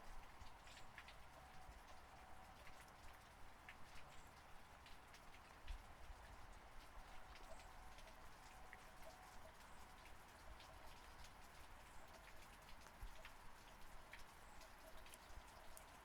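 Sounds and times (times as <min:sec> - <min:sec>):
faint steady rainfall: 0:00.0 - 0:16.0.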